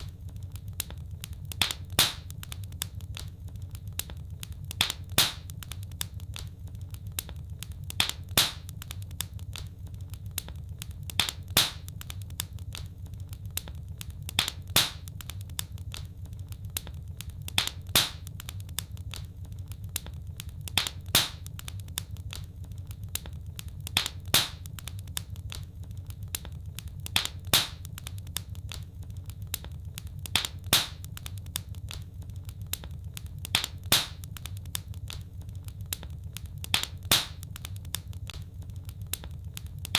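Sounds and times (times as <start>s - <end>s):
fire pops: 0.0s - 39.9s
low rumble of flames: 0.0s - 39.9s
wood fire crackling: 0.0s - 39.9s.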